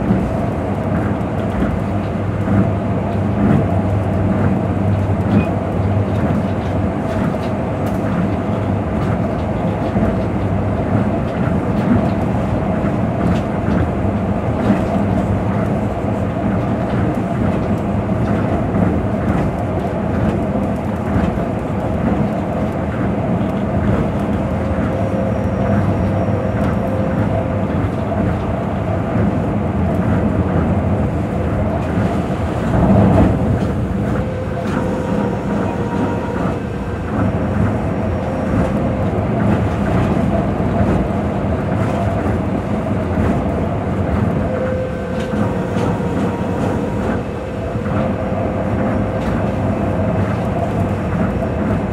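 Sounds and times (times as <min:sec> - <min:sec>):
tyres rumbling on guideway: 0:00.9 - 0:51.9.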